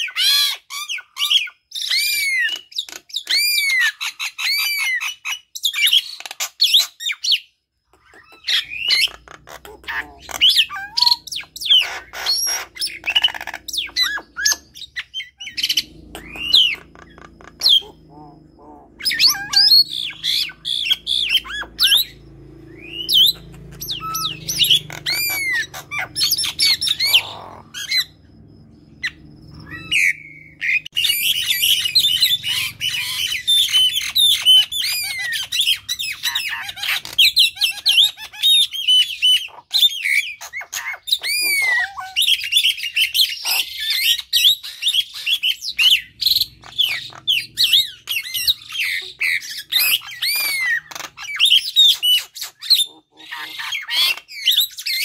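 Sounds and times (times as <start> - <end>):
birds chirping and squawking: 0.0 - 55.0.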